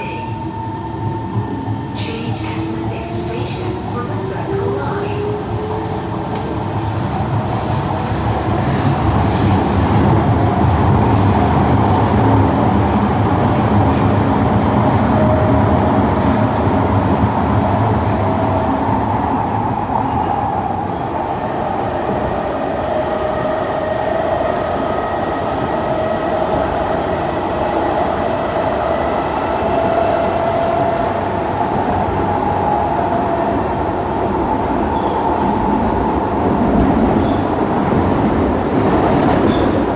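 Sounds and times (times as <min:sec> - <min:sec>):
train wheels rumbling on track: 0:01.2 - 0:39.9.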